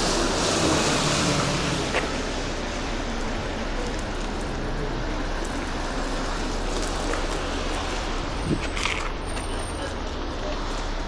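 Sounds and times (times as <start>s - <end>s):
city traffic noise: 0.0s - 11.0s.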